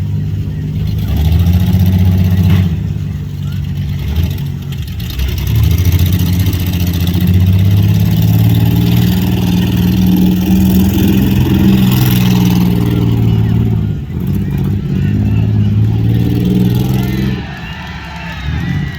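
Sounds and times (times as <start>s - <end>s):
car engines revving loudly: 0.0s - 18.9s.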